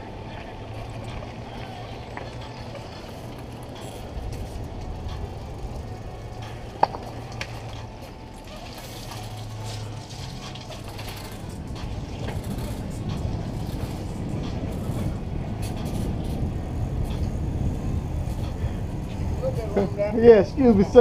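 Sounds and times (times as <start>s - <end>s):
wind rumble on microphone: 0.0s - 8.2s, 9.2s - 21.0s
wheels rolling on sidewalk: 0.0s - 21.0s.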